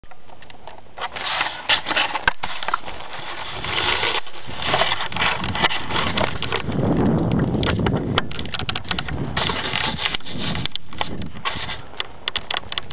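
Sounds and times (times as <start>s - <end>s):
bike rattling and clicking: 0.0s - 12.9s
bike tyres crunching over gravel: 0.0s - 12.9s.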